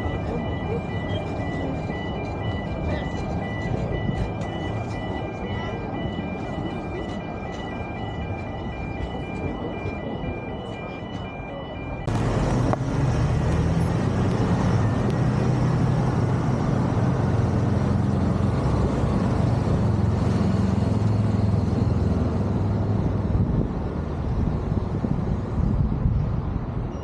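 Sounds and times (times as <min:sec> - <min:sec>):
wind and road noise: 0:00.0 - 0:27.0.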